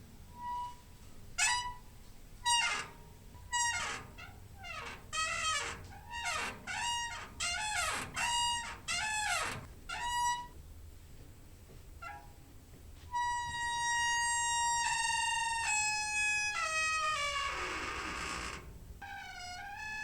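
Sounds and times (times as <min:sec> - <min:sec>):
door hinge squeaking: 0:00.4 - 0:10.6, 0:13.2 - 0:20.0.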